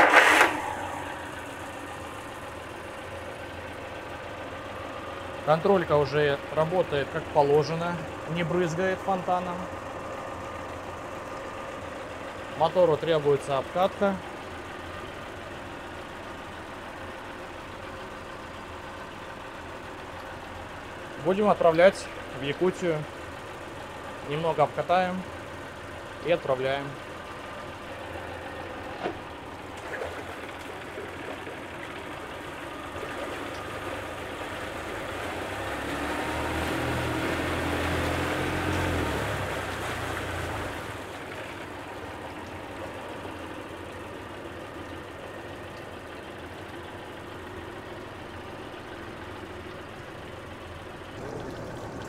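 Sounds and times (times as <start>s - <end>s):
outboard engine running: 0.0s - 52.0s
propeller churning water: 0.0s - 52.0s.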